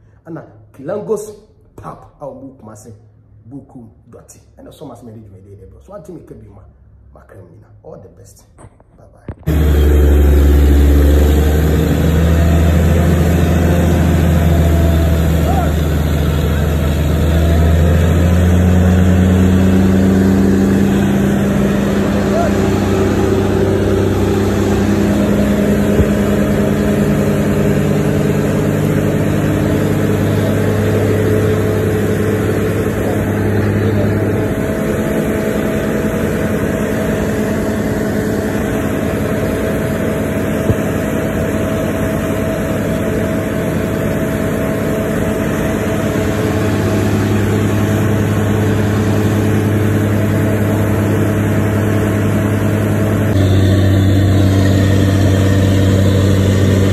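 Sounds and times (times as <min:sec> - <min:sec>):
drilling rig engine droning: 0:09.5 - 0:56.9.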